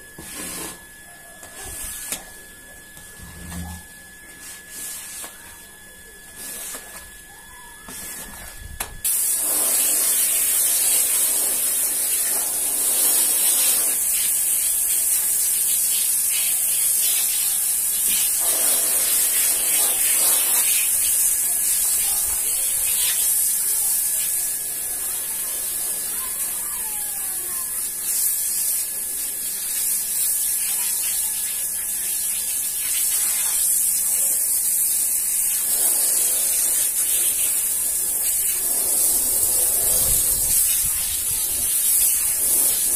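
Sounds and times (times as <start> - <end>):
hose spraying water on floor: 0.0 - 0.8, 1.5 - 2.4, 4.4 - 5.6, 6.3 - 42.9.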